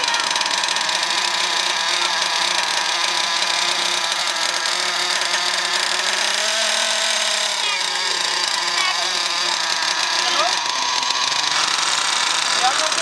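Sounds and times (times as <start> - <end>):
small nitro engine idling: 0.0 - 13.0.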